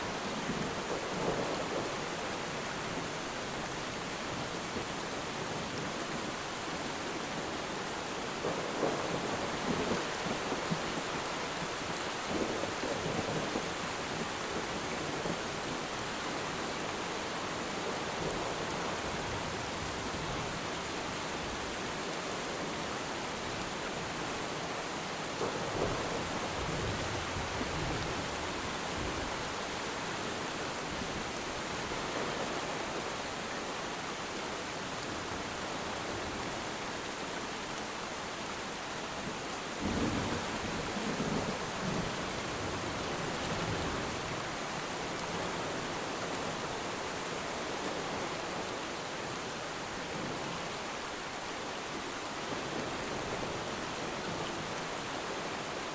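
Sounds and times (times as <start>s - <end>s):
rain falling on water: 0.0s - 55.9s.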